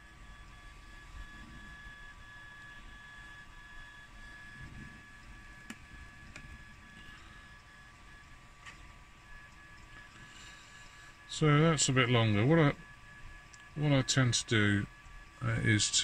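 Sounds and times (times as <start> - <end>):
pulsing electrical whine: 0.0 - 16.0.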